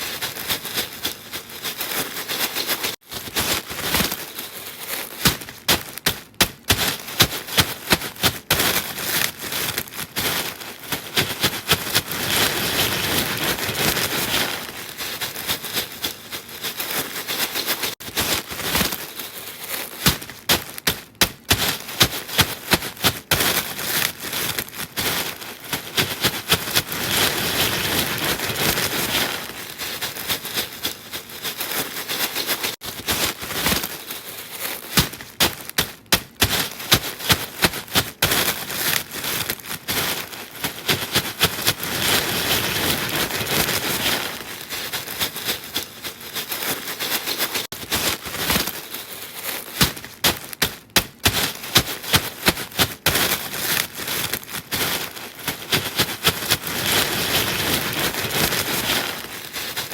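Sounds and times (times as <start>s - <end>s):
crisp food crunching: 0.0s - 59.9s.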